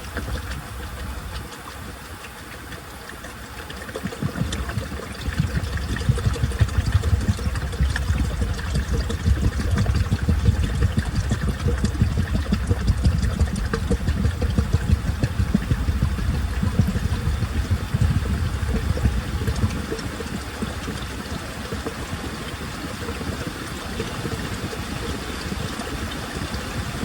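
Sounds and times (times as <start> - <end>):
motor low rumble: 0.0 - 27.0
washing machine drum churning: 0.0 - 27.0
water and laundry sloshing: 0.0 - 27.0.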